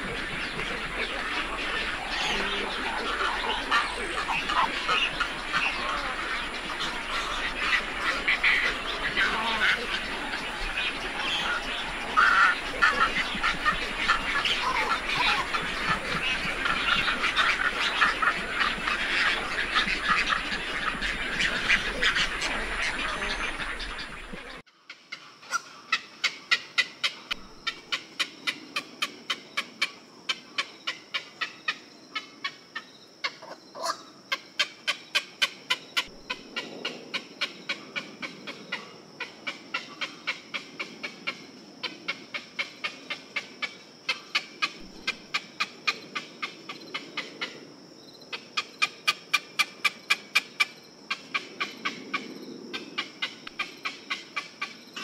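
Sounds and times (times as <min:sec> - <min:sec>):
steady high hiss: 0:00.0 - 0:55.0.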